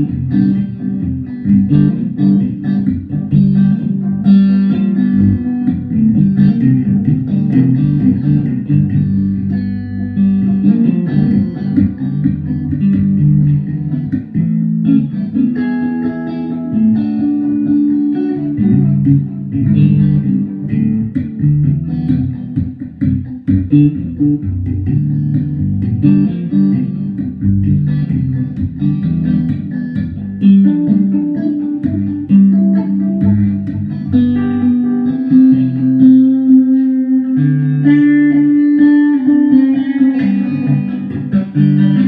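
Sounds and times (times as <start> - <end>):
plucked guitar music: 0.0 - 42.0.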